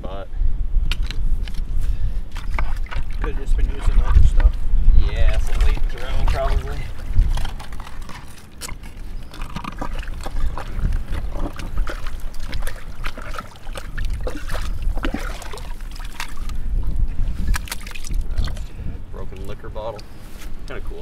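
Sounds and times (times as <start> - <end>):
muddy water sloshing: 1.4 - 21.0.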